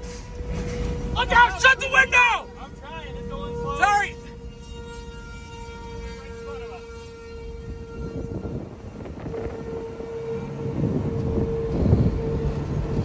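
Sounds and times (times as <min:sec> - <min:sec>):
droning tone: 0:00.0 - 0:13.0
road and wind rumble in vehicle: 0:00.0 - 0:13.0.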